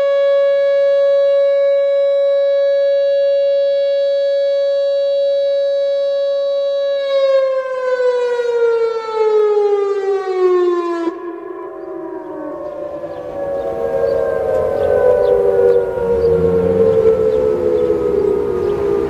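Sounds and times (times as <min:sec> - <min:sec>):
warning siren wailing: 0:00.0 - 0:19.0.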